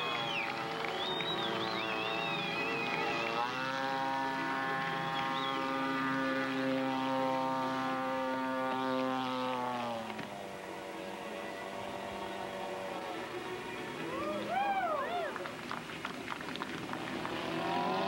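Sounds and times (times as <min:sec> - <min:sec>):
model airplane engine running: 0:00.0 - 0:18.0.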